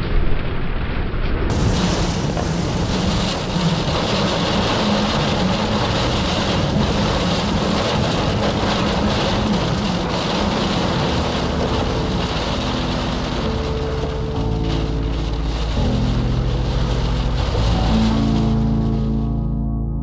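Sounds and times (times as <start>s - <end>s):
strong wind on microphone: 0.0s - 19.5s
rain: 0.0s - 19.6s.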